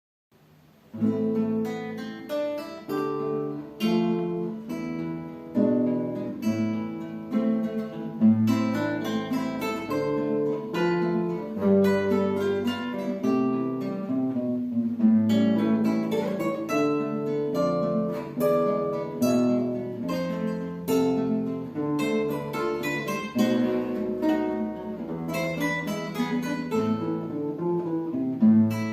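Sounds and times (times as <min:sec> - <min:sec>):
two acoustic guitars playing: 0:00.6 - 0:28.9.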